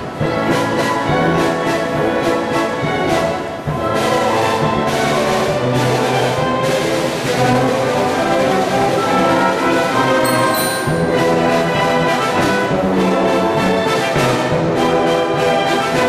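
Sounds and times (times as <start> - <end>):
brass and woodwinds: 0.0 - 16.0.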